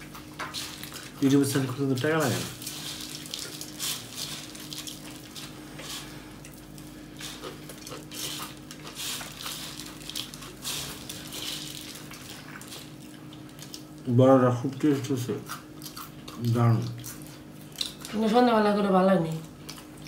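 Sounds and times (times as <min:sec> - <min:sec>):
person chewing: 0:00.0 - 0:01.2, 0:02.4 - 0:14.1, 0:15.3 - 0:18.2, 0:19.4 - 0:20.0
steady low hum: 0:00.0 - 0:20.0.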